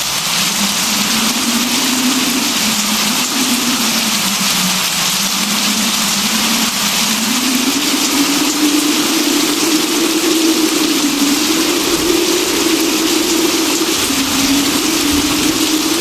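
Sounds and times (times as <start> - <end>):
steady rain hiss: 0.0 - 16.0
low wavering hum: 0.3 - 16.0.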